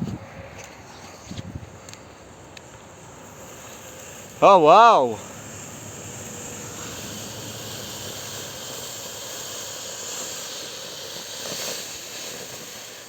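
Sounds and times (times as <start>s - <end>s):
firework fountain hissing: 0.5s - 13.0s.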